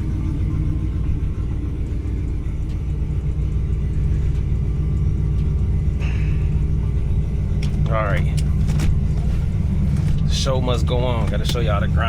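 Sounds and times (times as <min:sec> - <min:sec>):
car engine running steadily: 0:00.0 - 0:12.0.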